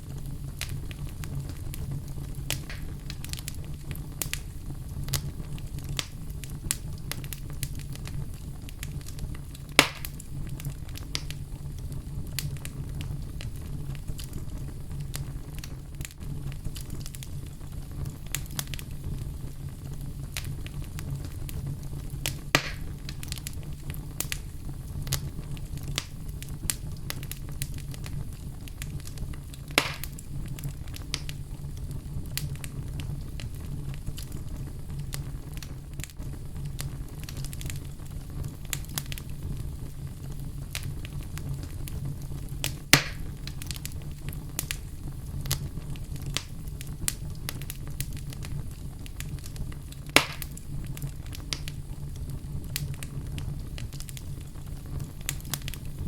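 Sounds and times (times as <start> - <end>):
fire crackling: 0.0 - 56.0
low rumble of flames: 0.0 - 56.0
loud sharp fire pops: 0.1 - 56.0.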